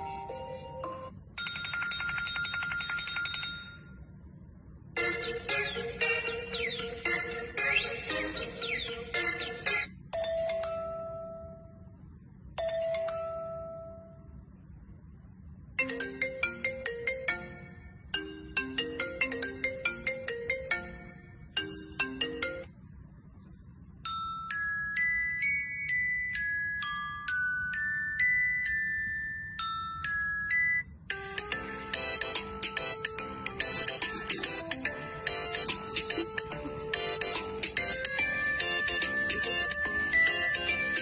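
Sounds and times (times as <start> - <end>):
phone ringtone chimes: 0.0 - 4.1, 5.0 - 11.9, 12.6 - 14.4, 15.8 - 22.7, 24.0 - 41.0
short ringtone melodies: 0.0 - 4.1, 5.0 - 11.9, 12.6 - 14.3, 15.8 - 22.7, 24.0 - 41.0
high tinkling ringtone tune: 0.0 - 4.2, 5.0 - 14.4, 15.8 - 22.9, 23.9 - 41.0.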